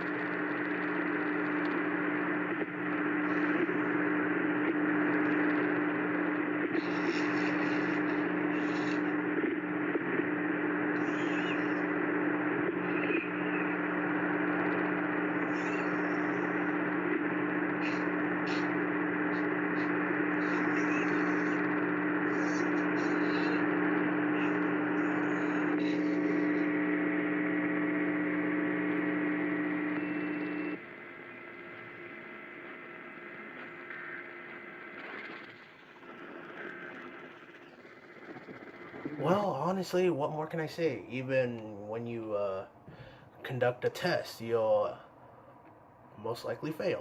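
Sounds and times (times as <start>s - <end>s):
loud electrical hum: 0.0s - 47.0s
static hiss with crackles: 0.0s - 47.0s.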